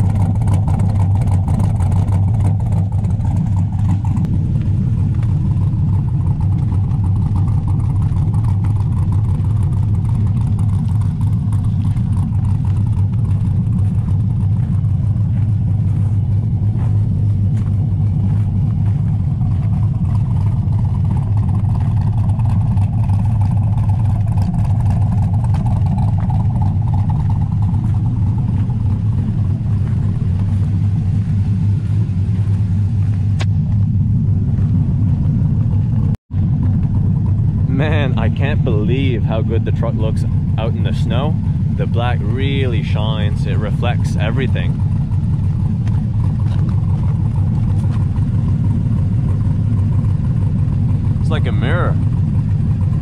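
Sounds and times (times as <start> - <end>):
v-eight engine choppy idle: 0.0 - 53.0.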